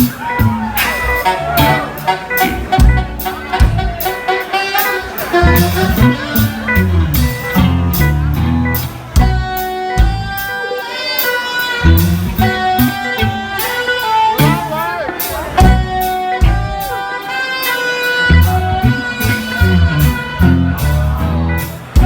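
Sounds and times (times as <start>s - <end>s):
steady drum beat: 0.0s - 10.5s, 11.8s - 17.2s, 18.3s - 22.0s
live funk band playing: 0.0s - 22.0s.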